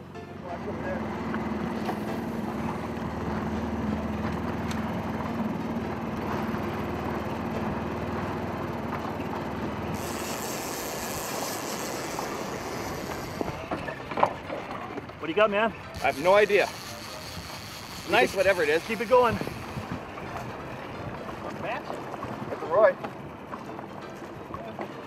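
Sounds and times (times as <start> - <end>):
outboard motor running: 0.1 - 25.0.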